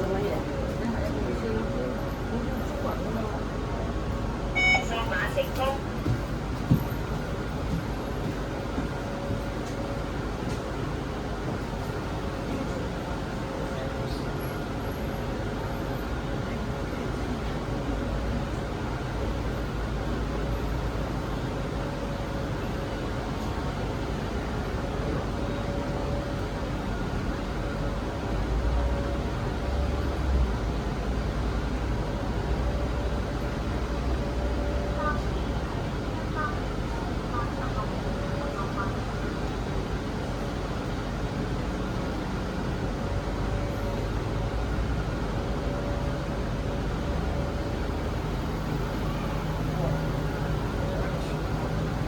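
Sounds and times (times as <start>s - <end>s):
bus drivetrain rumble: 0.0s - 52.0s.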